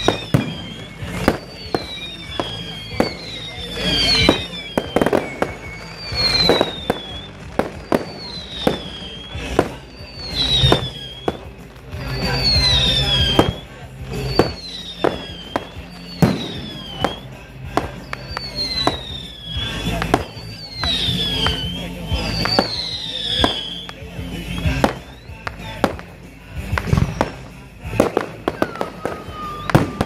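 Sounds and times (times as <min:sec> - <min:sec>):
fireworks bangs and crackling: 0:00.0 - 0:30.0
whistling firework shells: 0:00.0 - 0:30.0.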